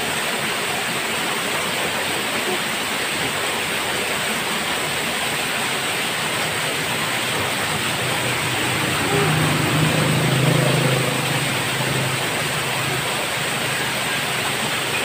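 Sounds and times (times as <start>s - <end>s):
waterfall splashing into pool: 0.0s - 15.0s.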